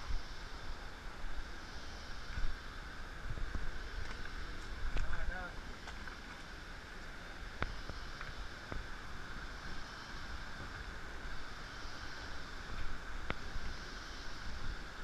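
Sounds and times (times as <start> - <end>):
rainforest hiss: 0.0 - 15.0
wind rumble: 0.0 - 15.0.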